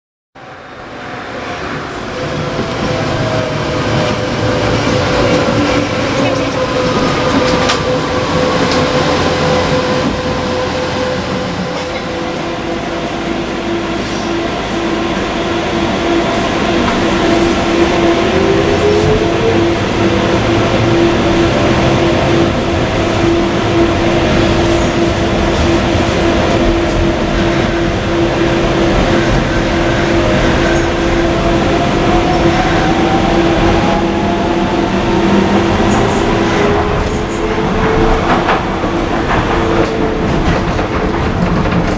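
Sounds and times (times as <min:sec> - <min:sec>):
train wheels rumbling on track: 0:00.4 - 0:41.9.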